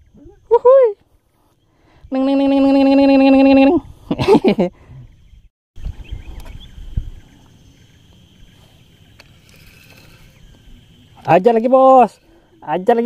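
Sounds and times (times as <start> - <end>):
river ambience: 0.0 - 13.0.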